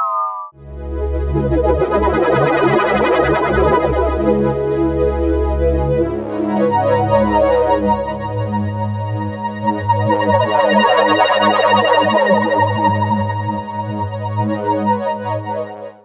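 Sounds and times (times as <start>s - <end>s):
fluttering synthesizer pad chords: 0.0s - 15.6s.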